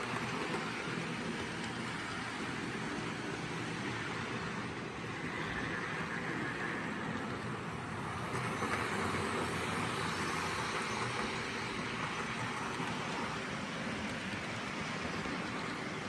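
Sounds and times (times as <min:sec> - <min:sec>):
model train motors whirring: 0:00.0 - 0:16.0.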